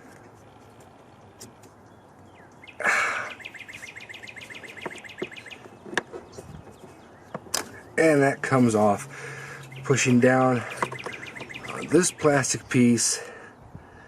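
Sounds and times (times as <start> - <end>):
bird trilling chirps: 1.2 - 12.9.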